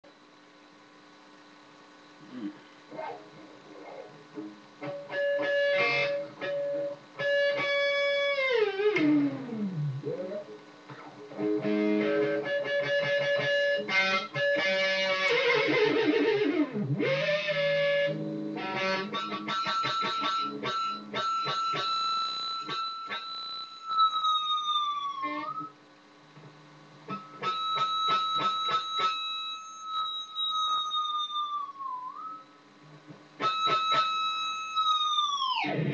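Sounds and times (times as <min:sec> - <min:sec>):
electric guitar effects: 0:02.2 - 0:35.9.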